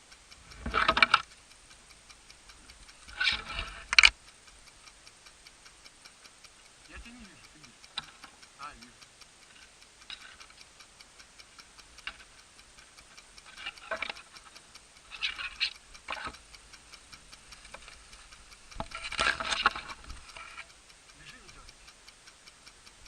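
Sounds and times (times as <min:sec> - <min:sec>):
rapid mechanical ticking: 0:00.0 - 0:23.0.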